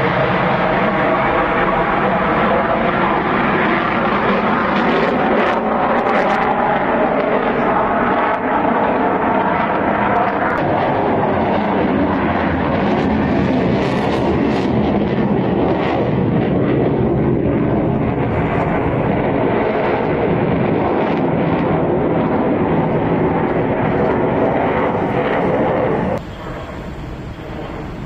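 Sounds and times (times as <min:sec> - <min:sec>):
jet engine noise: 0:00.0 - 0:28.0.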